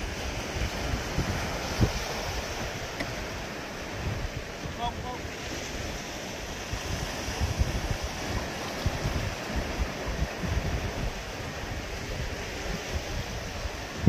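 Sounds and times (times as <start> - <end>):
waves washing on rocky shore: 0.0 - 14.0
wind buffeting microphone: 0.0 - 14.0.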